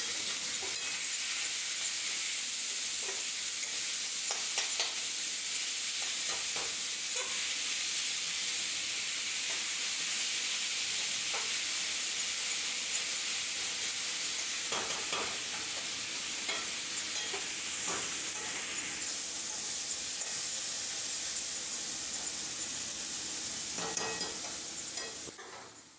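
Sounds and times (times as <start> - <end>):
oil sizzling in a pan: 0.0 - 25.9.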